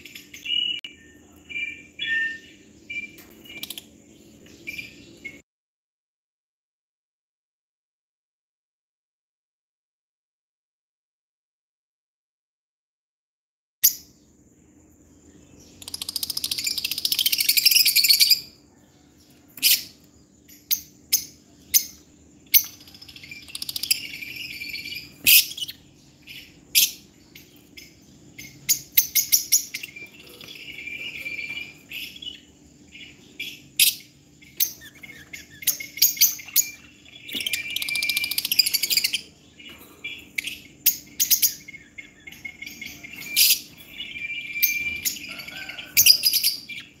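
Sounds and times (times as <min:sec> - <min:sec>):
lovebirds chirping: 0:00.0 - 0:05.4, 0:13.8 - 0:47.0.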